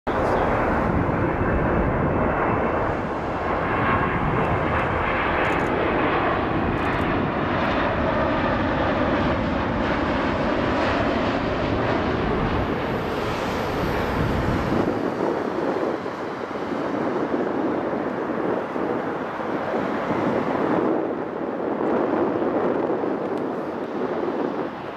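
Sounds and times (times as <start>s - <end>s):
jet engines roaring: 0.1s - 24.9s.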